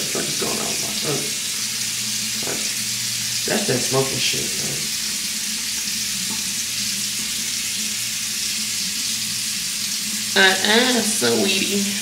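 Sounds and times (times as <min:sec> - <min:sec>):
tap running into basin: 0:00.0 - 0:10.4.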